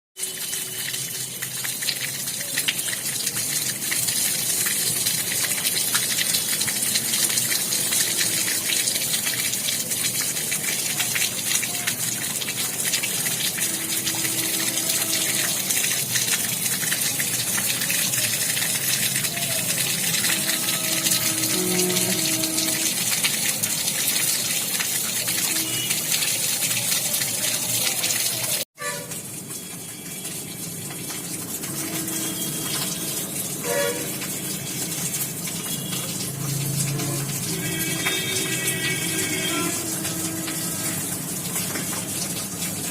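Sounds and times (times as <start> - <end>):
water splashing onto floor: 0.2 - 42.9.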